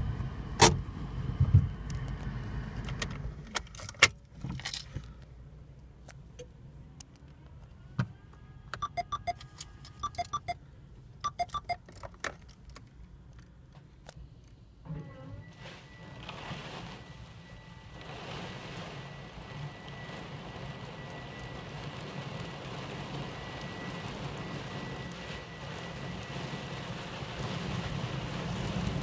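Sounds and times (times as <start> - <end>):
car engine rumble: 0.0 - 29.0.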